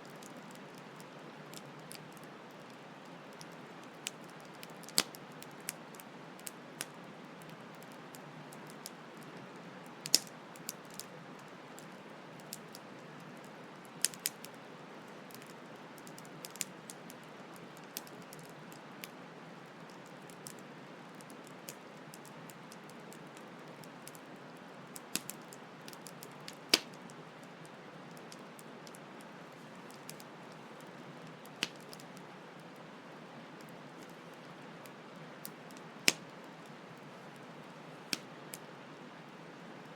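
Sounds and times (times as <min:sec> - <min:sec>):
campfire crackling and popping: 0:00.0 - 0:24.2, 0:24.9 - 0:32.8, 0:33.5 - 0:38.7.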